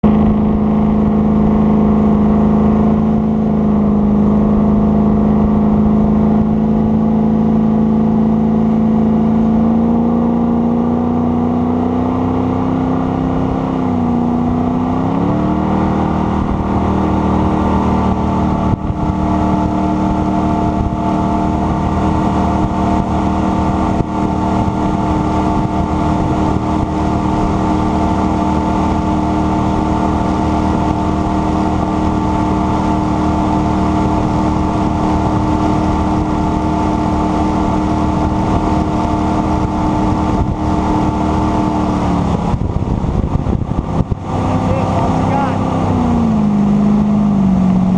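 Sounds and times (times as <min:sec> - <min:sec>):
jet boat engine running: 0:00.0 - 0:47.9.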